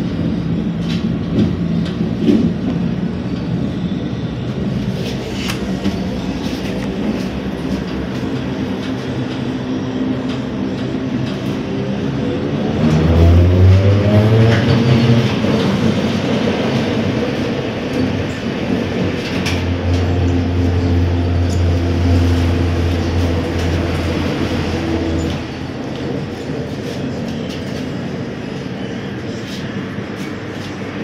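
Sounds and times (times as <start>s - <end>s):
trolleybus cabin hum: 0.0s - 31.0s.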